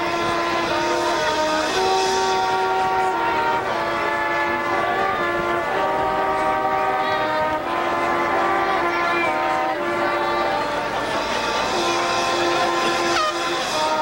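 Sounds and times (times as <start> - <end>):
marching band horns playing chords: 0.0 - 14.0.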